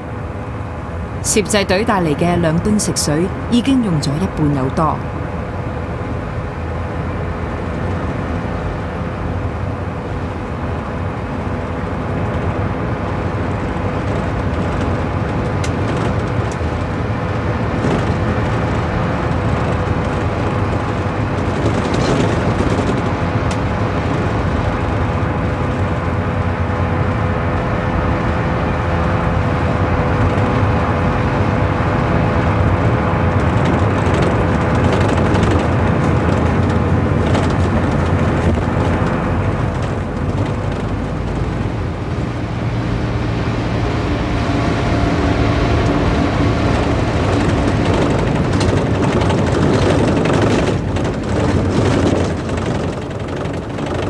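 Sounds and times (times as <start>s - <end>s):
vehicle engines driving over rough ground: 0.0s - 54.0s.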